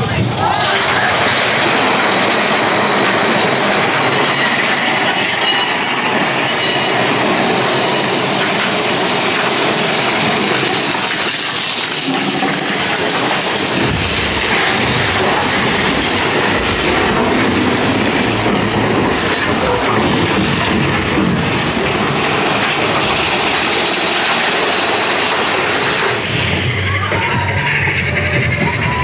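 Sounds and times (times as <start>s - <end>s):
roller coaster cars rattling: 0.0s - 29.0s.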